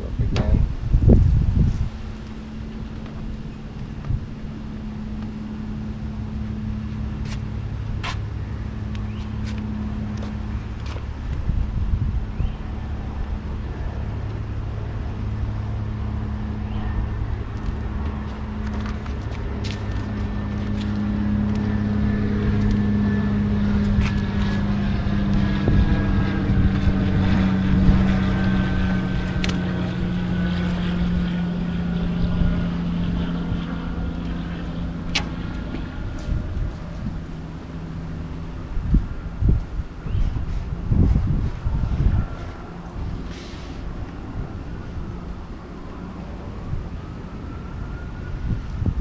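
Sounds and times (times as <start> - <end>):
motor hum: 0.0 - 49.0.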